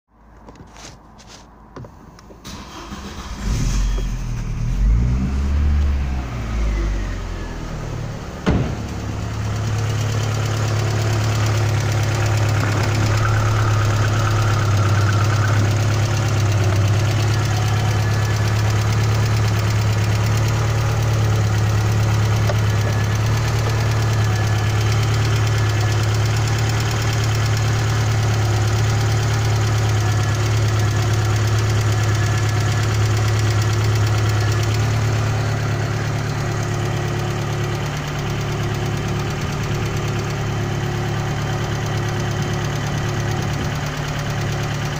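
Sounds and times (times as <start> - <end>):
car engine starting and idling: 0.2 - 44.9.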